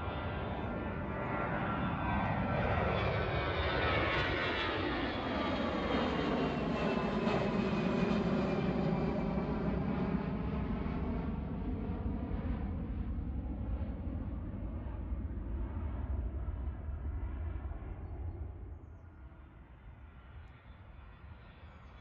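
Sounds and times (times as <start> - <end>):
jet airliner engines passing overhead: 0.0 - 22.0.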